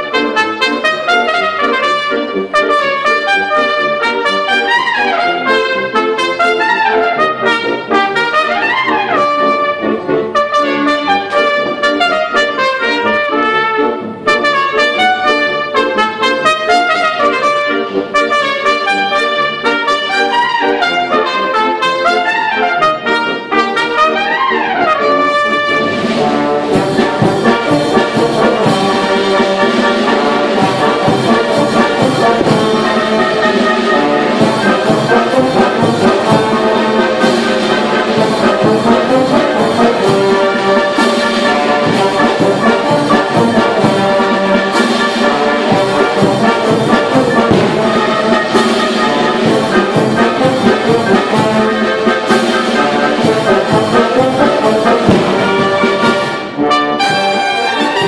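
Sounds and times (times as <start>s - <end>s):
solo trumpet melody: 0.0s - 58.0s
wind band playing march rhythm: 0.0s - 58.0s.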